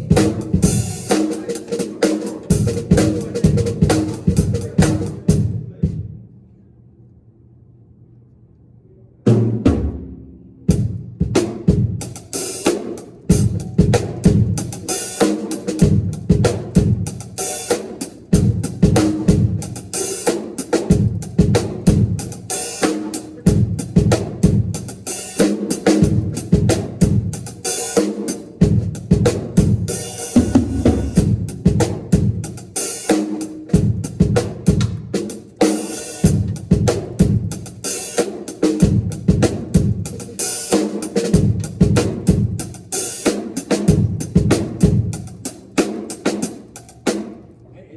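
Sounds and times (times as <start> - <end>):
drum kit playing groove: 0.0 - 6.2, 9.3 - 47.5.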